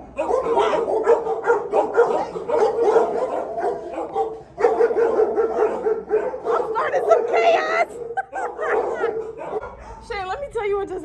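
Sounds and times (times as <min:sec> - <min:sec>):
dogs barking and yipping: 0:00.0 - 0:10.2.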